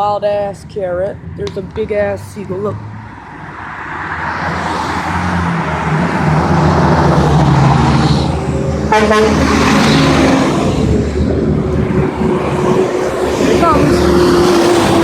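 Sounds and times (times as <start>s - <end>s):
vehicle driving past: 2.7s - 15.0s.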